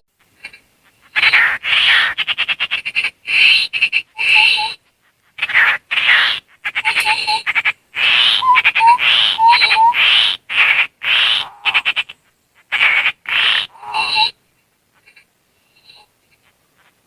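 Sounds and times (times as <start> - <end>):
bird harsh churring calls: 0.4 - 17.0.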